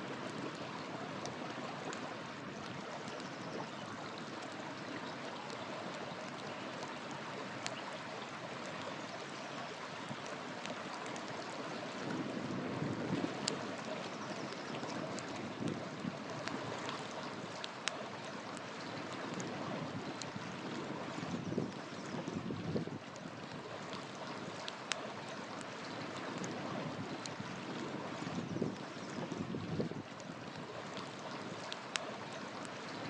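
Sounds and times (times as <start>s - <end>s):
river flowing: 0.0s - 33.0s
campfire crackling: 0.1s - 33.0s.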